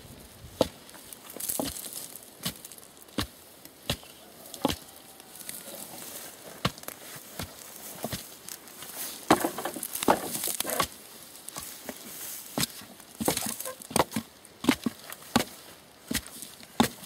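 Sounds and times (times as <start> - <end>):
soil crunching and rustling: 0.0 - 17.0
digging tool striking soil: 0.5 - 5.7, 6.5 - 17.0.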